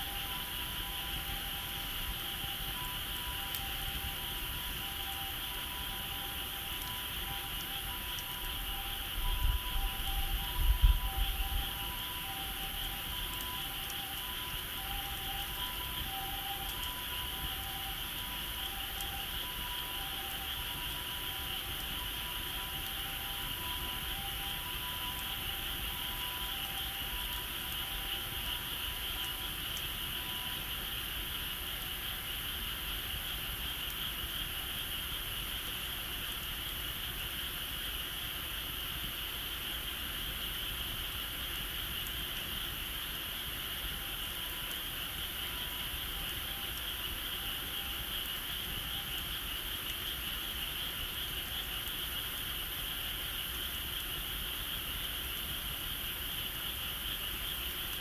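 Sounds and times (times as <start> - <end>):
insects calling: 0.0 - 58.0.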